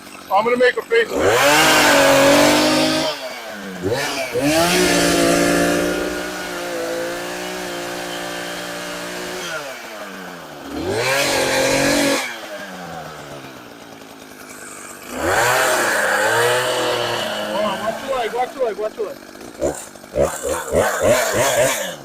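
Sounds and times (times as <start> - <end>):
chainsaw revving and idling: 0.0 - 22.0.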